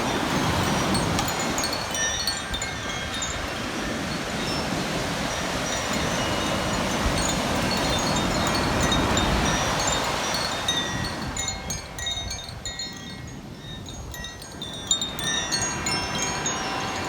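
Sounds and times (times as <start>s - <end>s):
ocean waves breaking: 0.0s - 13.0s, 14.2s - 17.0s
wind chime tinkling: 0.0s - 17.0s.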